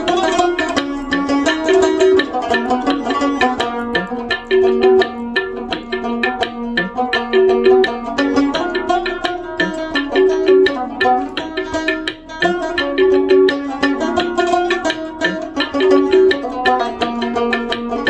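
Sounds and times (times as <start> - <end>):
music with busy percussive beat: 0.0 - 18.0.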